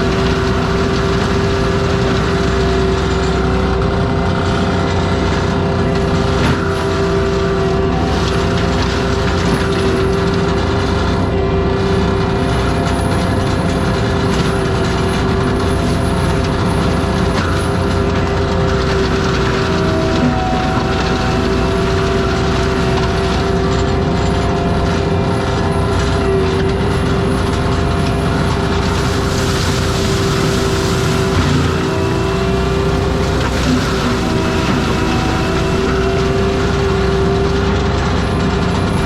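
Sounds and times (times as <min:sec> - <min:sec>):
forestry mulcher running: 0:00.0 - 0:39.0.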